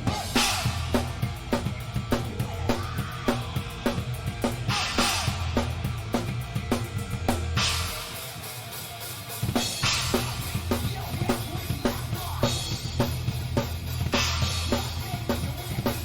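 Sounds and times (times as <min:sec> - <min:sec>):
drum kit beat: 0:00.0 - 0:16.0
live rock band: 0:00.0 - 0:16.0.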